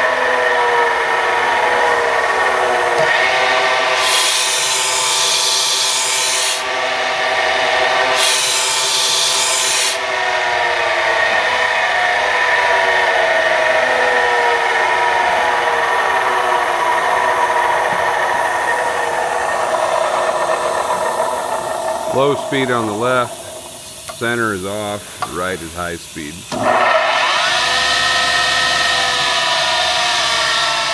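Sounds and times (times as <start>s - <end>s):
saw motor whine coasting down: 0.0s - 30.9s
abrasive saw grinding: 0.1s - 30.9s.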